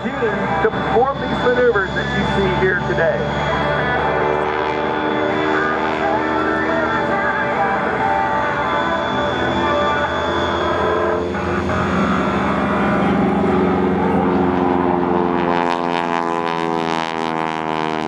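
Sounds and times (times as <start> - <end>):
propeller airplane engine running: 0.0 - 18.0.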